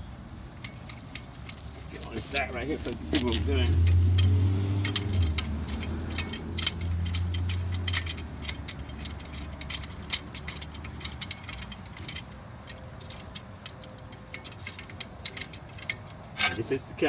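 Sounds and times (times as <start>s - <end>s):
metal clamp clicks and rattles: 0.6s - 17.0s.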